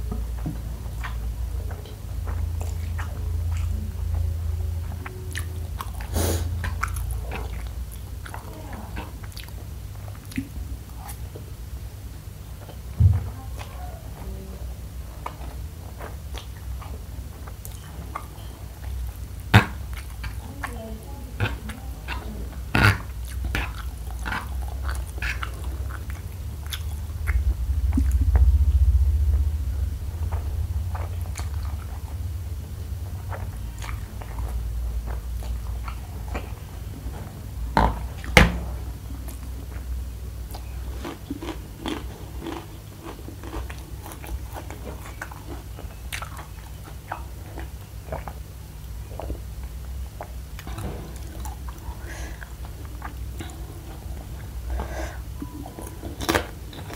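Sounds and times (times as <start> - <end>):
chewing noodles: 0.0 - 11.4, 12.6 - 38.3, 39.1 - 56.9.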